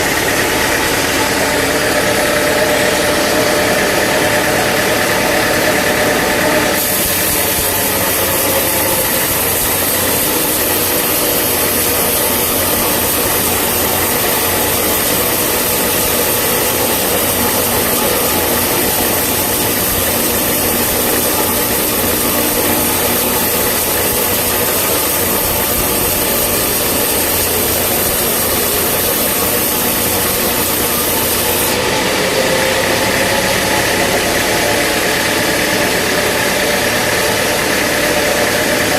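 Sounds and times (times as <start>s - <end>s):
saw hissing through log: 0.0s - 38.9s
sawmill engine running: 0.0s - 38.9s.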